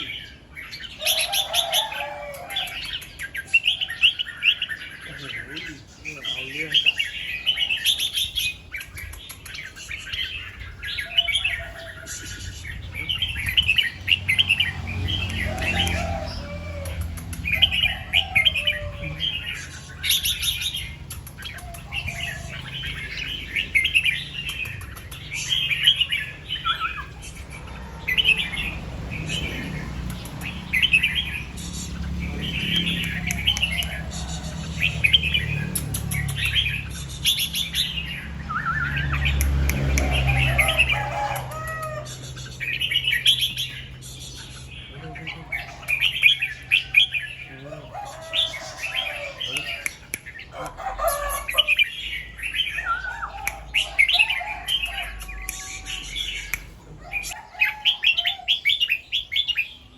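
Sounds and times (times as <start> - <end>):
bird singing warbled phrases: 0.0 - 59.9.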